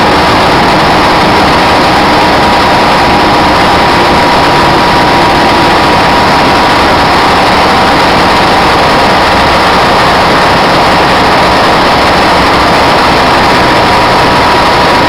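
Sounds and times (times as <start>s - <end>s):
diesel engine running: 0.0s - 15.0s
high engine whine: 0.0s - 15.0s.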